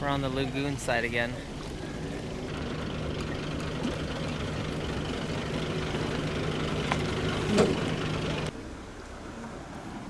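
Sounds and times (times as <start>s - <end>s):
vehicle engine humming: 0.0s - 8.7s.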